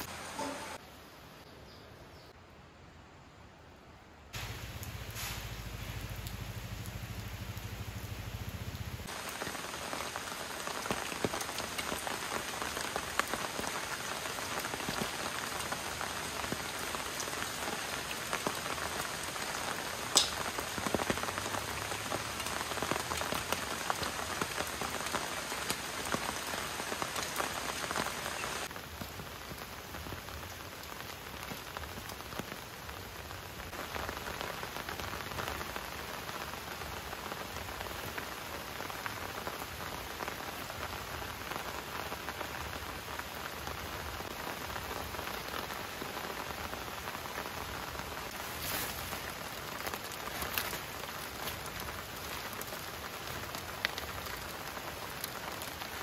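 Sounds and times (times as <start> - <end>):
rain pattering: 4.4 - 56.0.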